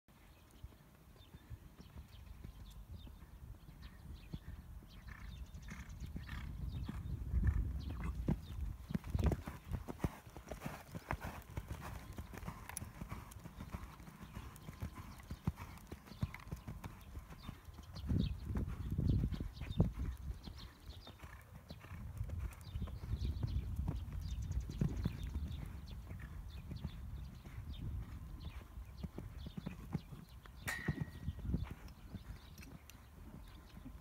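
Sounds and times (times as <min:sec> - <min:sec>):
horse hoofbeats on sand: 0:00.4 - 0:34.0.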